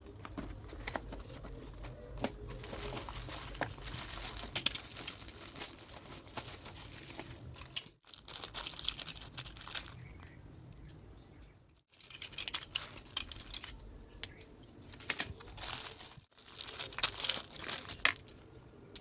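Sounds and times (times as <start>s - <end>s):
packaging crinkling and rustling: 0.0s - 10.0s, 11.9s - 13.8s, 14.8s - 19.0s.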